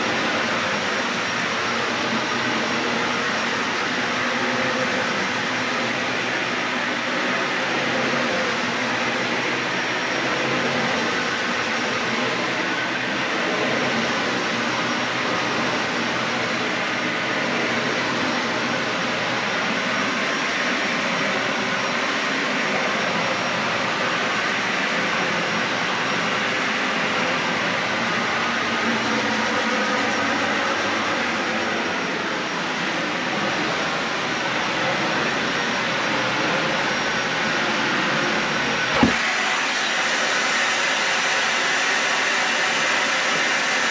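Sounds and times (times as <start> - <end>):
vacuum cleaner on carpet: 0.0 - 43.9.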